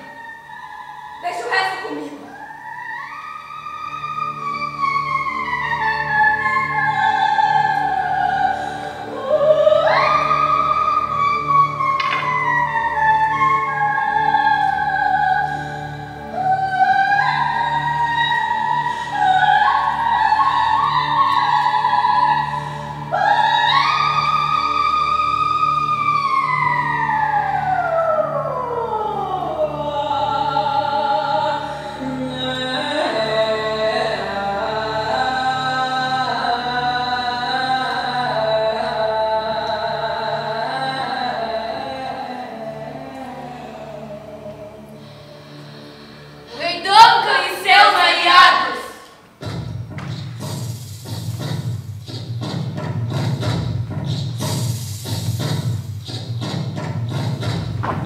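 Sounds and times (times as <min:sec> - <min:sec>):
chant-like singing voice: 0:00.0 - 0:45.0, 0:46.5 - 0:49.1.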